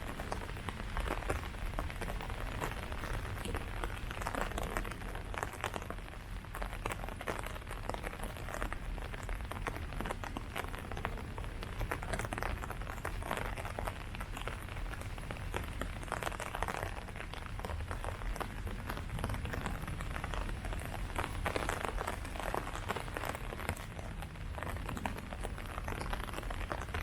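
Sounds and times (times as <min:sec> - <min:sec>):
rain falling on leaves: 0:00.0 - 0:27.0.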